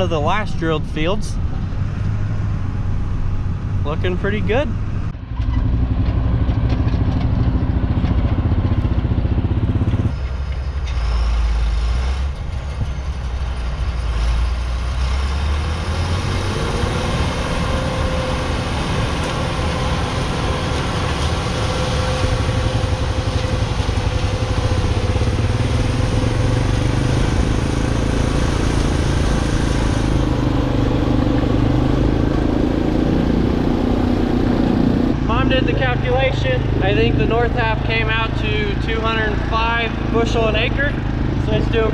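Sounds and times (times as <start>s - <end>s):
road and wind noise: 0.0s - 41.9s
vehicle engine humming: 0.0s - 41.9s.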